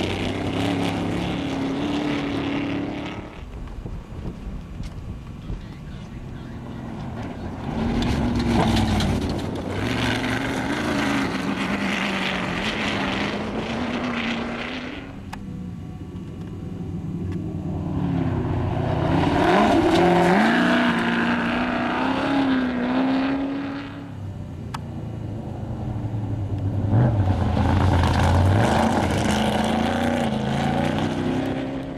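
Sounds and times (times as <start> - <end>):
off-road vehicles passing: 0.0 - 31.9.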